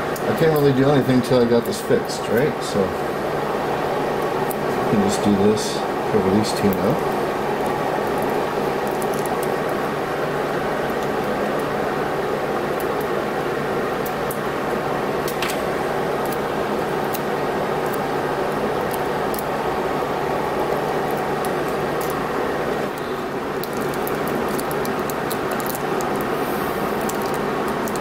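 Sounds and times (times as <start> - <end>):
background hum and hiss: 0.0 - 28.0.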